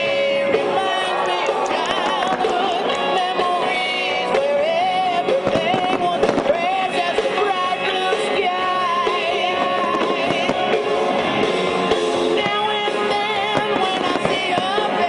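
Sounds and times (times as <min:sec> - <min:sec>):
firework bangs: 0:00.0 - 0:15.0
loud music with singing: 0:00.0 - 0:15.0.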